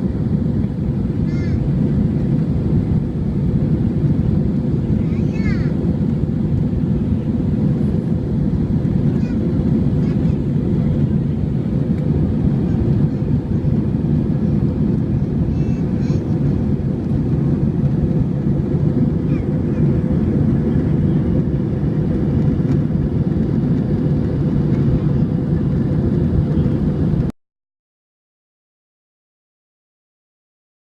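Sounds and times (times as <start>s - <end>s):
jet engine rumble in cabin: 0.0s - 27.3s.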